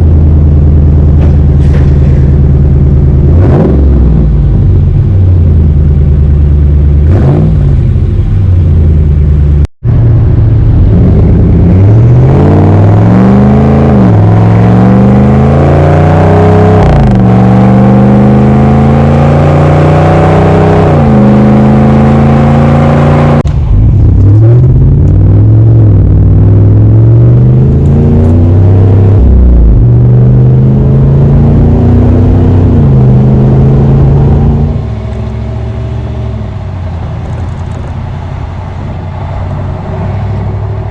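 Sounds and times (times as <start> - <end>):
car engine accelerating with deep rumble: 0.0 - 40.9.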